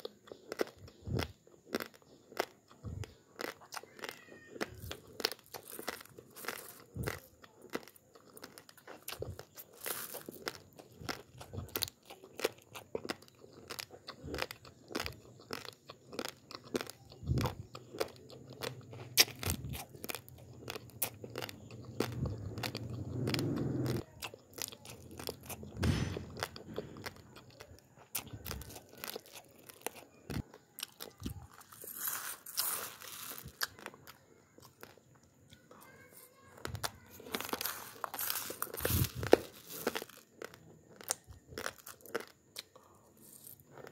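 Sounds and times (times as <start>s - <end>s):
raw rice being chewed: 0.0s - 43.9s.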